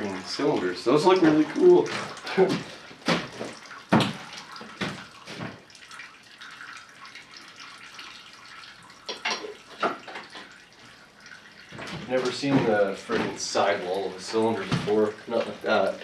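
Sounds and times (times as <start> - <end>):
liquid trickling: 0.0 - 16.0.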